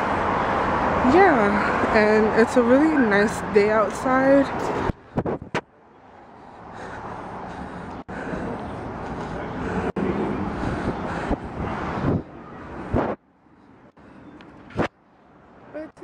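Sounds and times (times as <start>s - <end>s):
motor vehicle passing: 0.0s - 15.9s
street traffic noise: 0.0s - 16.0s.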